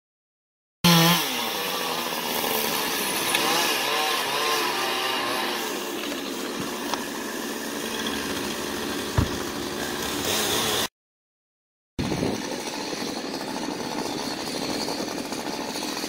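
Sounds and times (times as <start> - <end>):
chainsaw cutting wood: 0.9 - 10.9, 12.0 - 16.0.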